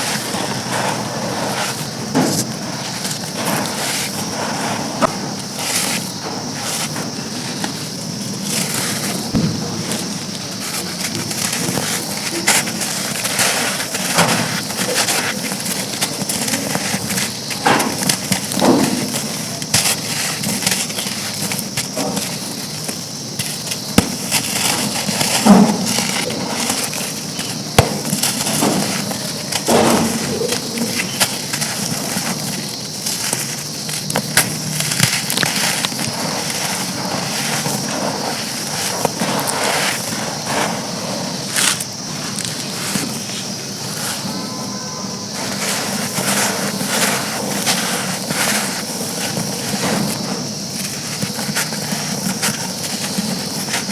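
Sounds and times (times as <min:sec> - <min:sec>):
charcoal being crushed: 0:00.0 - 0:44.6, 0:45.3 - 0:53.9.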